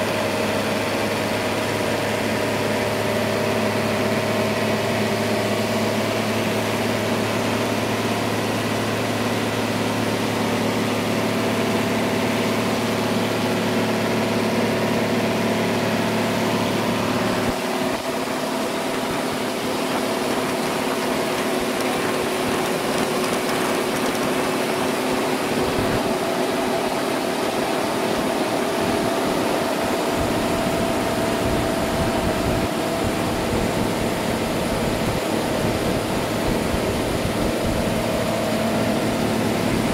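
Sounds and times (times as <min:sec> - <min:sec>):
sawmill machinery engine hum: 0:00.0 - 0:39.9.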